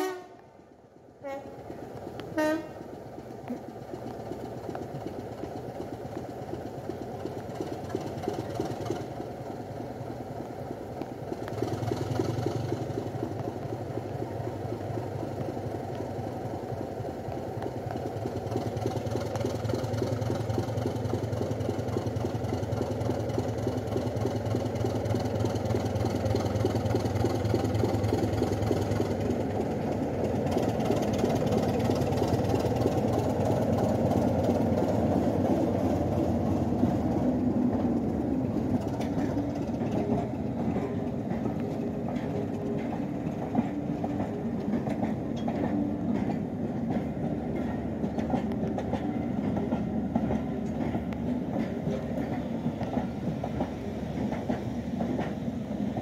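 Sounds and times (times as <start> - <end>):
diesel locomotive engines: 0.0 - 56.0.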